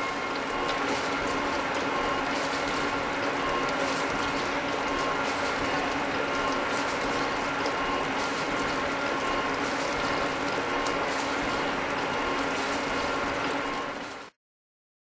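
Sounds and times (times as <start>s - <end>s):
gear planer machine running: 0.0s - 14.3s.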